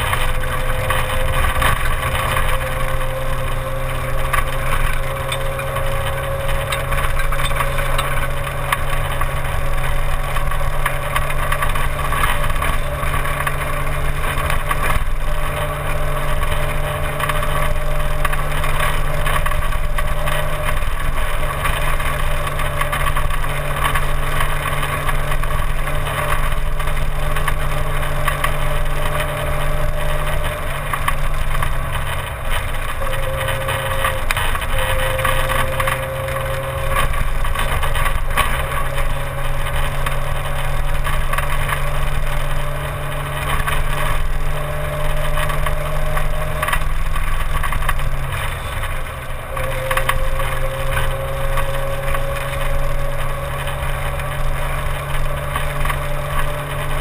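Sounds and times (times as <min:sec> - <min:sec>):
rally car engine running hard: 0:00.0 - 0:57.0
road and wind noise: 0:00.0 - 0:57.0.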